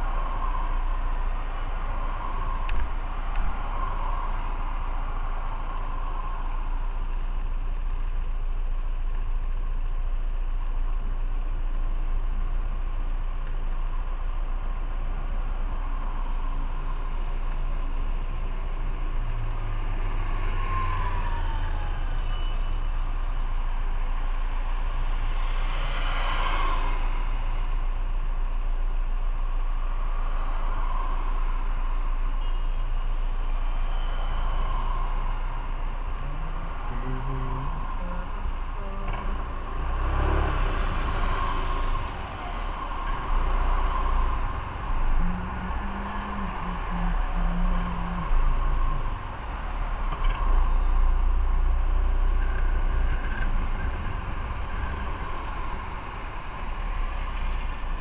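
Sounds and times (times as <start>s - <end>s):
passing traffic rushing: 0.0s - 8.3s, 13.5s - 58.0s.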